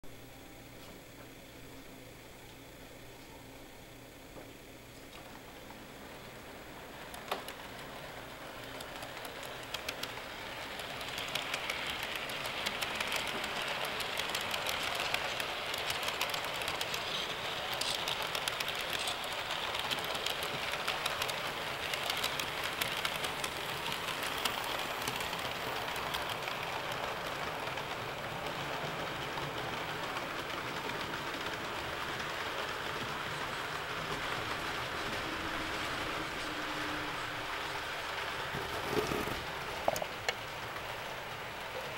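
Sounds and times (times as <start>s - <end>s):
model train whirring: 5.0s - 41.9s
wheels clicking over rail joints: 6.5s - 36.5s, 37.2s - 41.9s.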